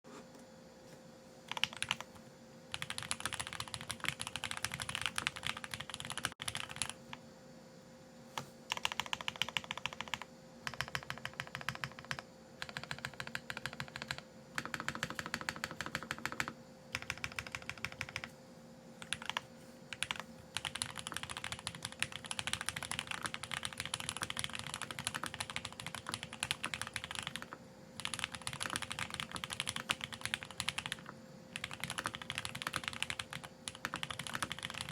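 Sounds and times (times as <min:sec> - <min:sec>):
mechanical keyboard typing: 0:01.5 - 0:02.1, 0:02.7 - 0:07.0, 0:08.4 - 0:18.3, 0:19.0 - 0:34.9.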